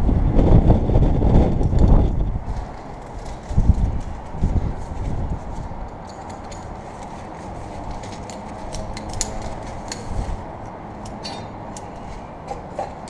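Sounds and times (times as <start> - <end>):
wind on microphone: 0.0 - 10.6.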